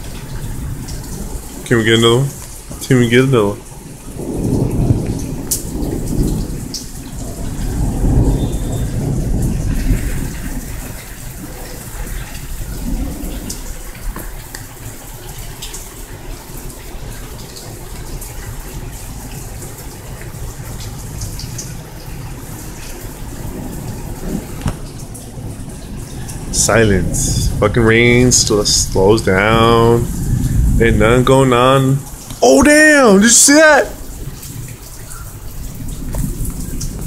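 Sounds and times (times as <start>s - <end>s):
steady rain: 0.0s - 37.0s
thunder rumbling: 0.0s - 37.0s
water drips: 0.0s - 37.0s.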